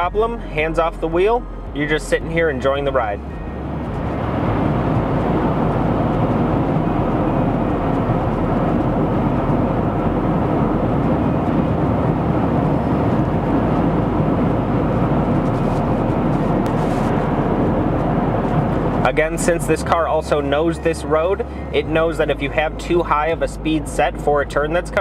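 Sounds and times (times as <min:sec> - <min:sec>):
wind noise in car cabin: 0:00.0 - 0:25.0.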